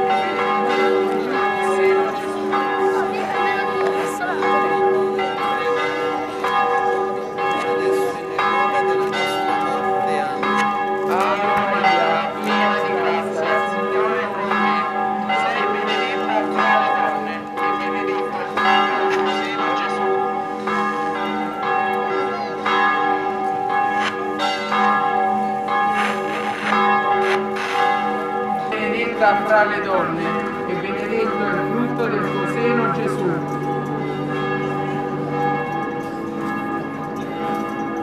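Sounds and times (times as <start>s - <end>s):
church bells ringing: 0.0s - 38.0s.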